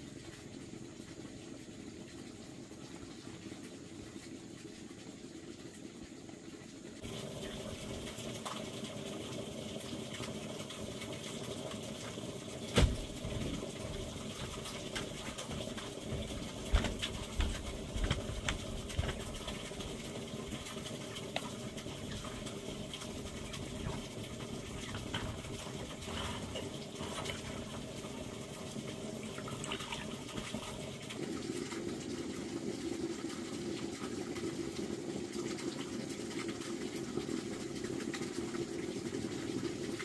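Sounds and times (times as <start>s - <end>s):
water pouring: 0.0s - 40.0s.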